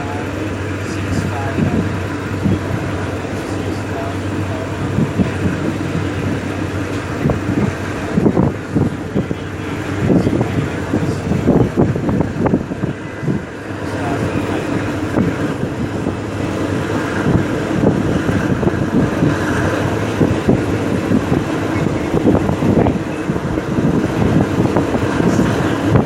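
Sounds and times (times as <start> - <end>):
moving vehicle noise: 0.0 - 26.0
wind buffeting microphone: 0.0 - 26.0.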